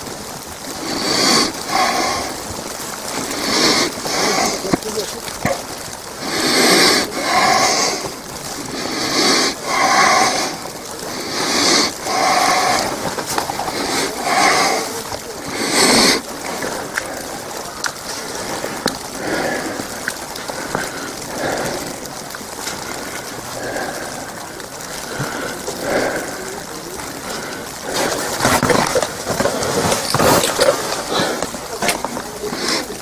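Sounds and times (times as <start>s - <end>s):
loud breathing puffs: 0.0s - 33.0s
wet snow pattering on umbrella: 0.0s - 33.0s.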